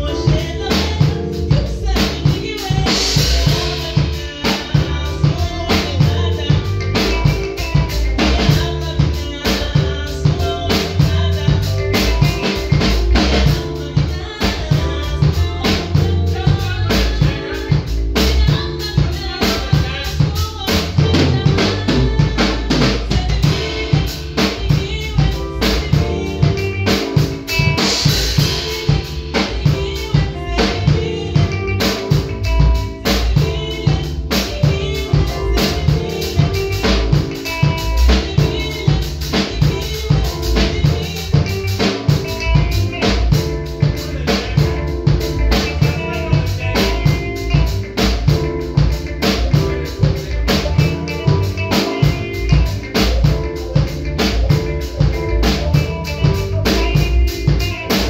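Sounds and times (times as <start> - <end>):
drum kit beat: 0.0 - 58.0
electric bass: 0.0 - 58.0
electric guitar: 0.0 - 58.0
keyboard: 0.0 - 58.0.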